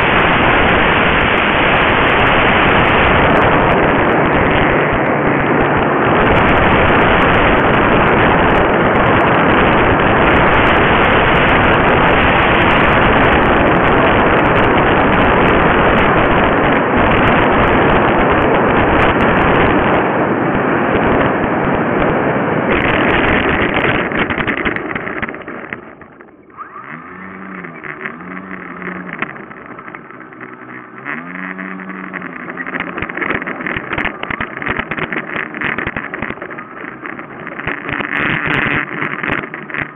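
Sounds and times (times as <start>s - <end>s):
air and propeller rush: 0.0s - 39.9s
faint hum rising and falling: 0.0s - 39.9s.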